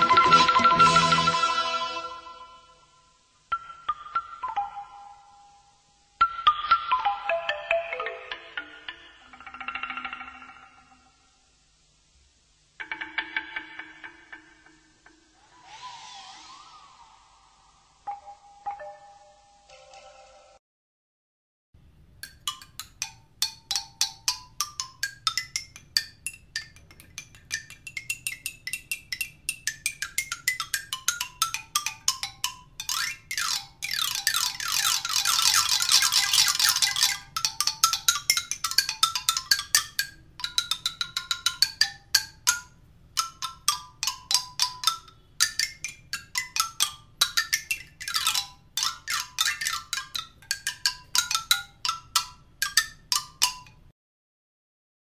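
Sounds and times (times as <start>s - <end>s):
bamboo xylophone: 0.0s - 11.3s, 18.0s - 20.6s, 22.2s - 53.9s.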